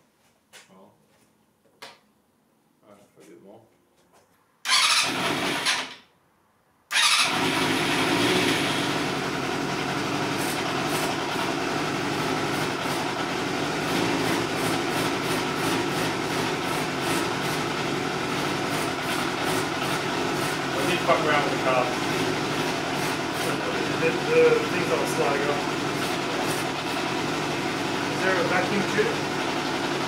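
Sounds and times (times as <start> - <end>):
motorcycle engine starting and running: 4.6 - 6.0, 6.9 - 30.0.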